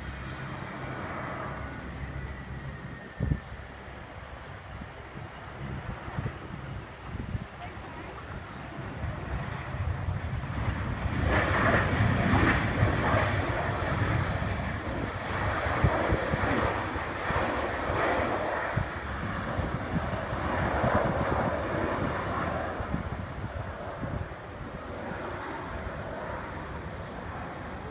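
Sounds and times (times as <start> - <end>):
light airplane engine running: 0.0 - 27.9.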